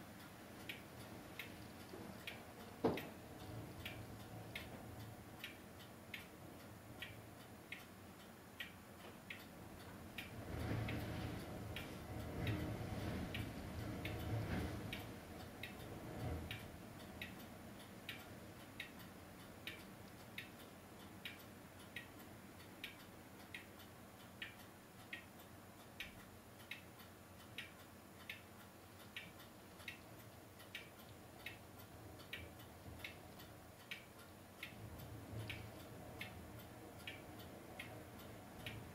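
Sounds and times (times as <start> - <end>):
faint evenly spaced ticks: 0.0 - 38.9
low hiss: 0.0 - 38.9.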